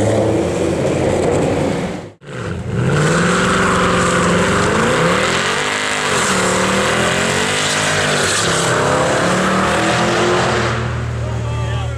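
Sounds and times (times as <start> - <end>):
loud car engine revving: 0.0 - 11.3.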